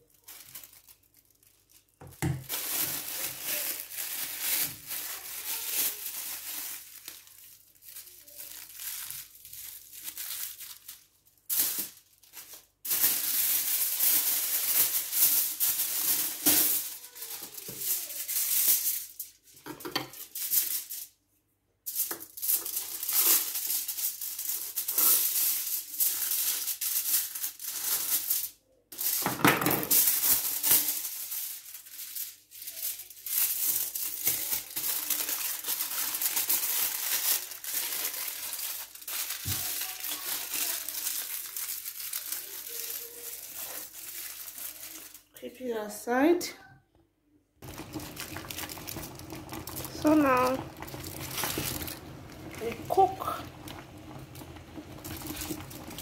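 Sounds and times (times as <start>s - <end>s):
foil and plastic bag crinkling: 0.0s - 21.2s, 21.9s - 45.9s, 47.6s - 56.0s.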